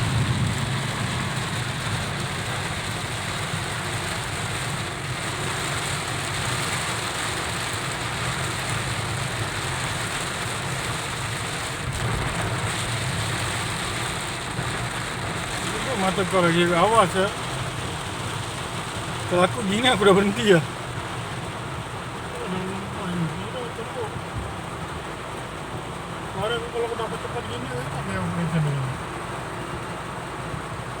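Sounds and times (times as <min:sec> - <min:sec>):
heavy rain on a car: 0:00.0 - 0:31.0
low car hum: 0:00.0 - 0:31.0.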